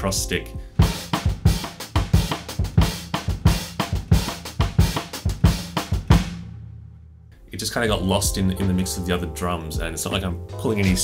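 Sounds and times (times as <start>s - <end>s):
drum kit playing bossa nova beat: 0.2s - 6.5s, 7.9s - 11.0s.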